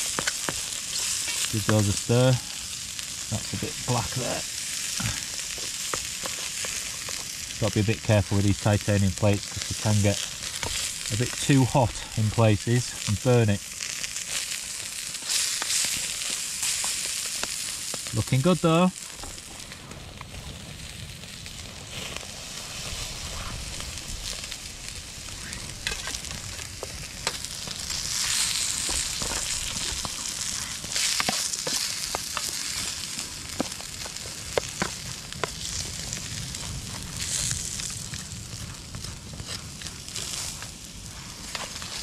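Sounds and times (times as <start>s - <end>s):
vegetables sizzling in oil: 0.0s - 42.0s.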